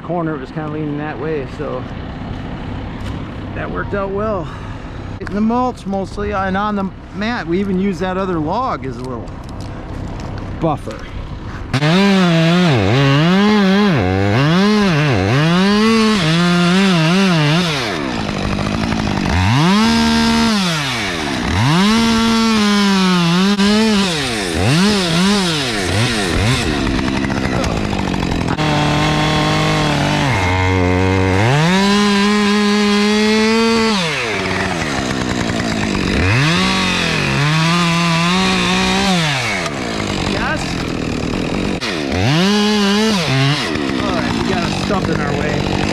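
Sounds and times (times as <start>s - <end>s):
chainsaw cutting wood: 9.0s - 45.9s.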